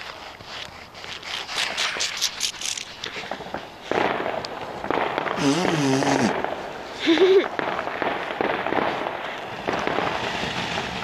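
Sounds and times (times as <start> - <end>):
fireworks crackling: 1.5 - 11.0.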